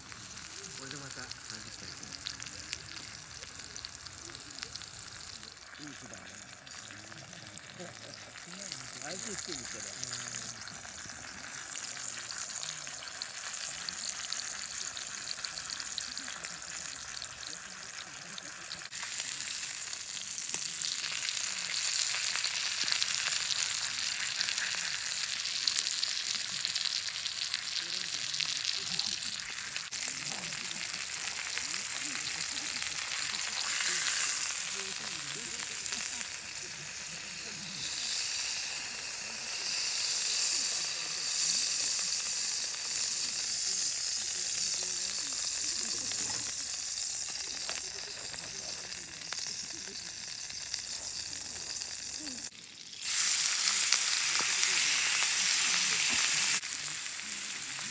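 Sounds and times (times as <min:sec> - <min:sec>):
steak sizzling in skillet: 0:00.0 - 0:57.9.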